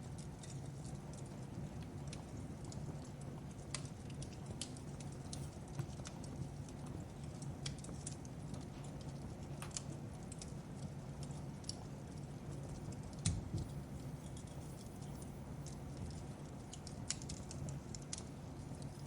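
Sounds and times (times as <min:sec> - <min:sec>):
fireplace crackling: 0:00.0 - 0:19.0
low rumble of fire: 0:00.0 - 0:19.0.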